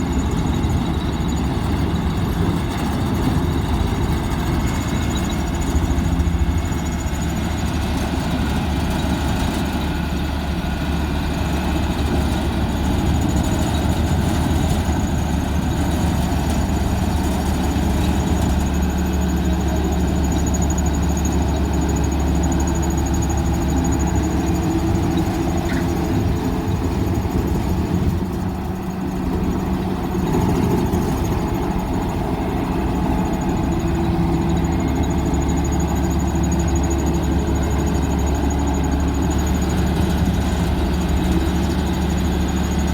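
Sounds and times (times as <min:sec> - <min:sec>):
diesel engine rumbling: 0:00.0 - 0:42.9.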